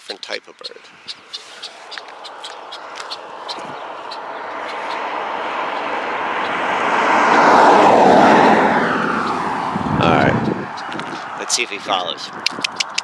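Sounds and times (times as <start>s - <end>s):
car driving past: 0.9s - 11.6s.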